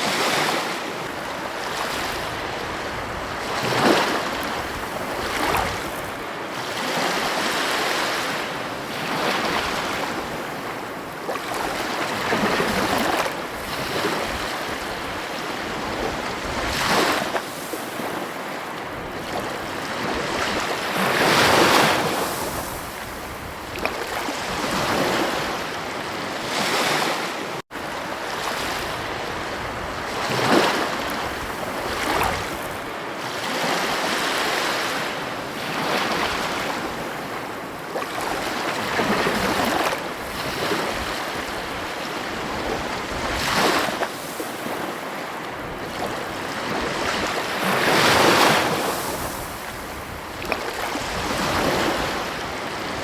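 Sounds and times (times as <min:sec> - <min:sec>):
ocean surf breaking on beach: 0:00.0 - 0:53.0.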